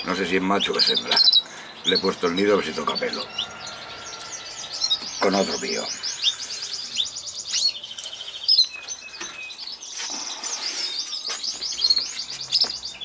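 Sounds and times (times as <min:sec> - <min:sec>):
canaries singing trills: 0:00.0 - 0:13.0.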